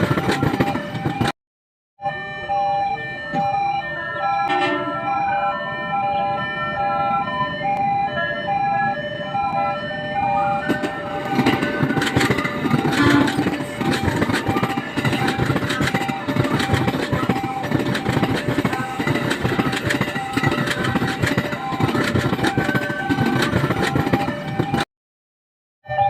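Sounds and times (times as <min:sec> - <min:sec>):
loud train noise: 0:00.0 - 0:01.3, 0:02.0 - 0:24.8
two-tone warning alarm: 0:00.0 - 0:01.3, 0:02.0 - 0:24.9.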